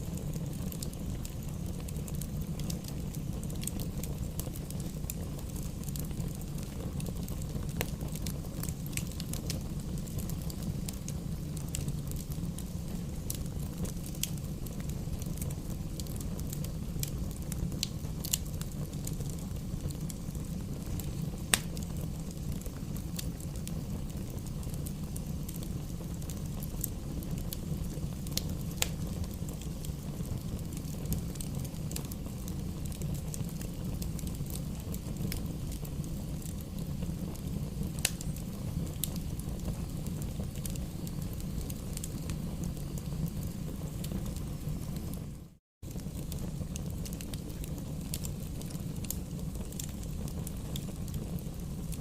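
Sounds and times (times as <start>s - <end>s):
campfire burning: 0.0s - 52.0s.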